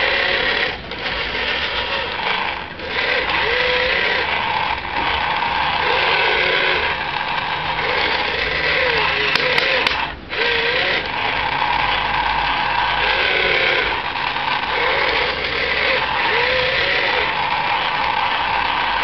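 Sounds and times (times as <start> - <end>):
toy excavator motors whirring: 0.0 - 19.0.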